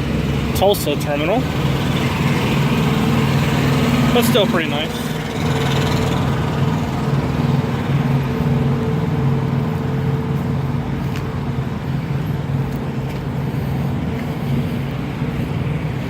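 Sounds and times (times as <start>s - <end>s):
diesel truck engines idling: 0.0s - 16.0s.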